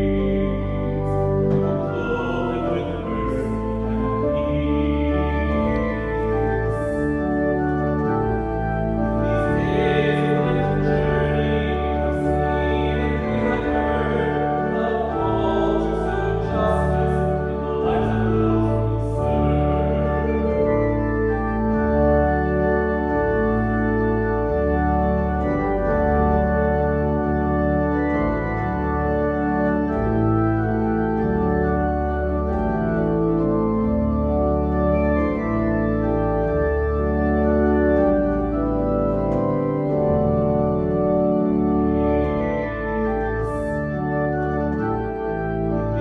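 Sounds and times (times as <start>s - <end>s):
organ playing chords: 0.0s - 46.0s.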